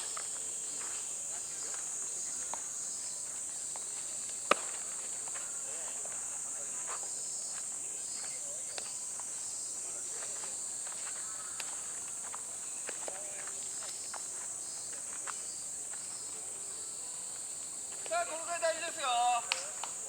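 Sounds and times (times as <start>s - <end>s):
faint distant voices: 0.0s - 20.0s
insects droning: 0.0s - 20.0s.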